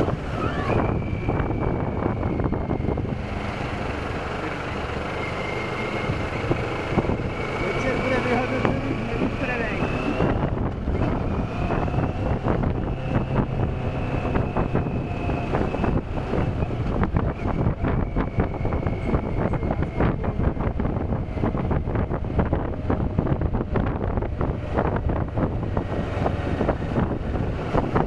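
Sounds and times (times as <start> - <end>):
wind rushing over microphone: 0.0 - 28.0
motorcycle engine running: 1.0 - 28.0.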